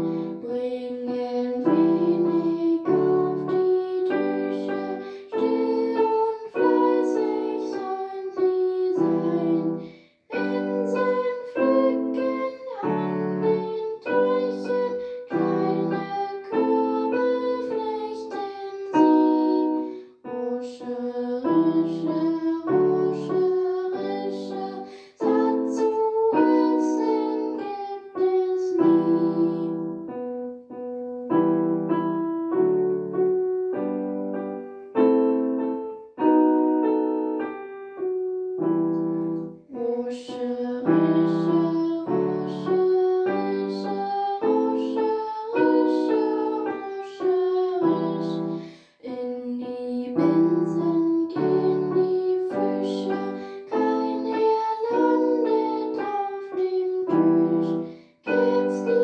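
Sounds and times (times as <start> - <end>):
electronic keyboard piano melody: 0.0 - 48.9, 49.8 - 59.0.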